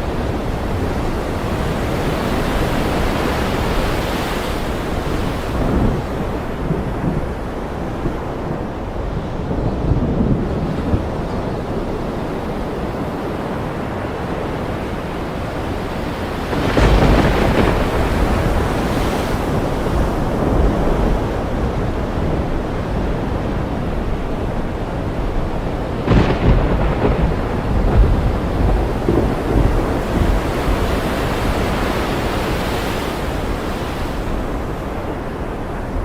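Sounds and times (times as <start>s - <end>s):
rain: 0.0s - 36.0s
thunder rumbling: 0.0s - 36.0s
waves washing: 0.0s - 36.0s.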